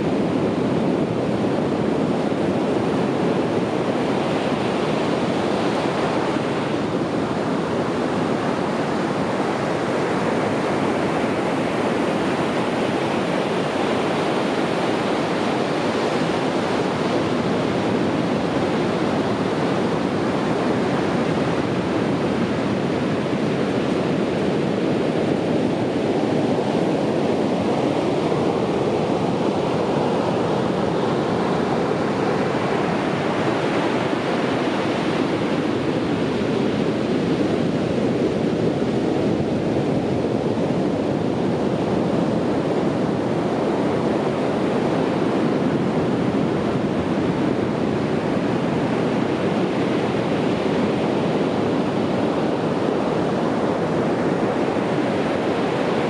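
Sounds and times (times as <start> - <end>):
surf washing on beach: 0.0 - 56.0.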